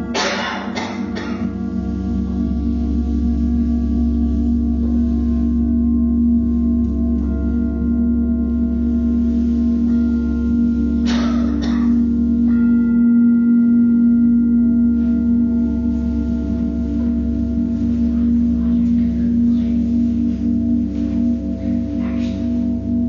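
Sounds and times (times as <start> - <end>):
didgeridoo drone: 0.0 - 23.0
singing bowls ringing: 0.0 - 23.0.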